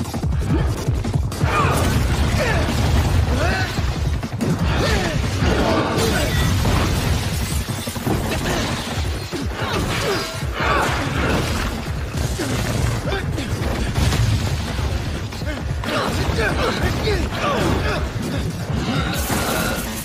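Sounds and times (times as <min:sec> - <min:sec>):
background music: 0:00.0 - 0:20.0
crashing and smashing rubble: 0:01.2 - 0:20.0.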